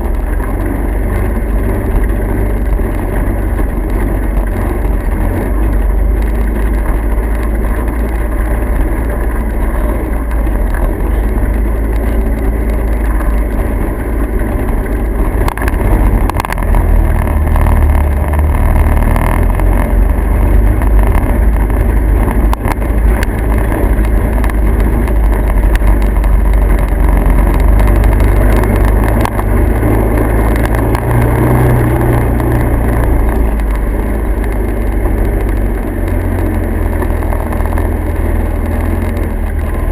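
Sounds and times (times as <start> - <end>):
motor vehicle low rumble: 0.0 - 39.9.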